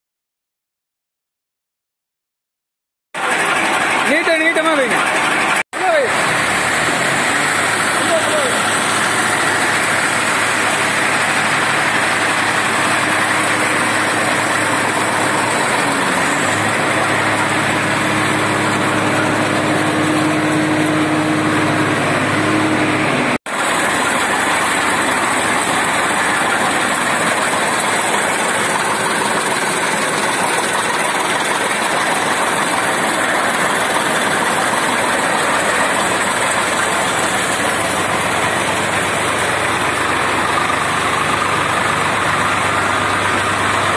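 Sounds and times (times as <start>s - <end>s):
chaff cutter chopping fodder: 3.2s - 43.9s
tractor engine running: 3.2s - 43.9s.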